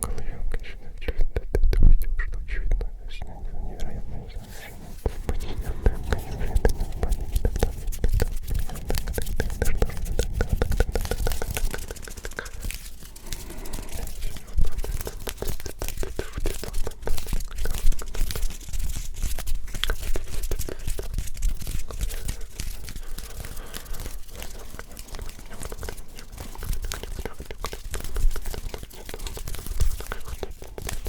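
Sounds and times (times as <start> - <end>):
hands rubbing near microphone: 0.1 - 31.0.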